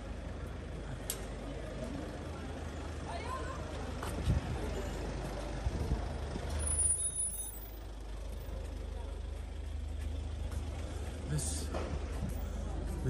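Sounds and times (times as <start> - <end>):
heavy vehicle engine running: 0.0 - 13.0
street traffic: 0.0 - 13.0.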